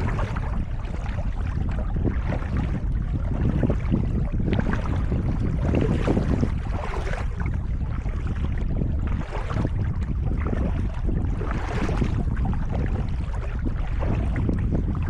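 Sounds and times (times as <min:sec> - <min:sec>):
kayak paddle splashing in water: 0:00.0 - 0:15.0
wind rumble on microphone: 0:00.0 - 0:15.0.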